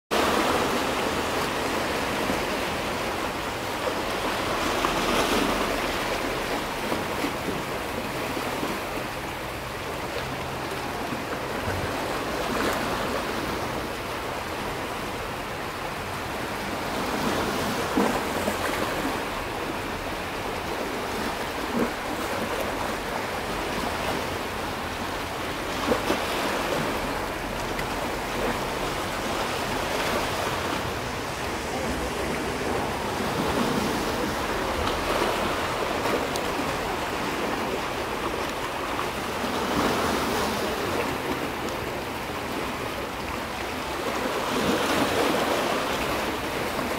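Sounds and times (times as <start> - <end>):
sea waves washing on rocky shore: 0.1 - 46.9.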